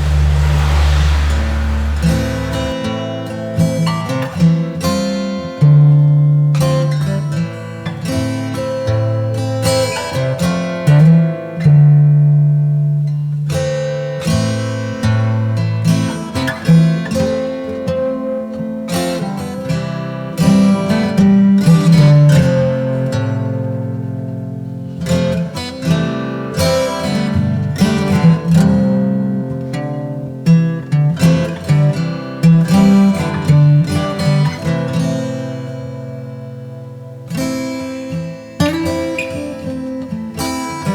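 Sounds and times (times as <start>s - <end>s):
acoustic guitar plucking: 0.0s - 40.9s.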